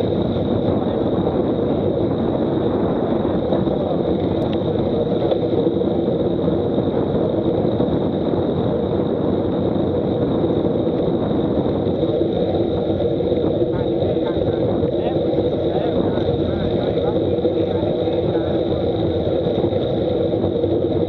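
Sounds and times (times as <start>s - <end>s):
tyre noise on asphalt: 0.0s - 21.0s
wind rushing on microphone: 0.0s - 21.0s.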